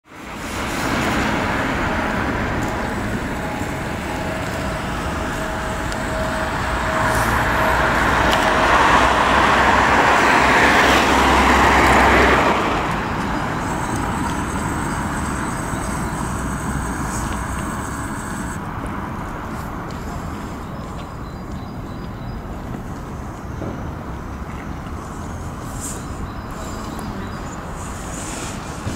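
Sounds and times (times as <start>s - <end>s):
road traffic passing: 0.0s - 28.9s.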